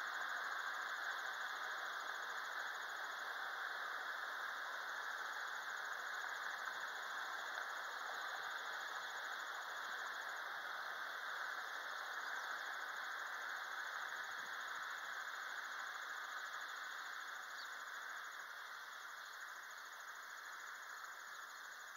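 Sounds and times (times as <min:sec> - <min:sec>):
even outdoor hiss: 0:00.0 - 0:21.9.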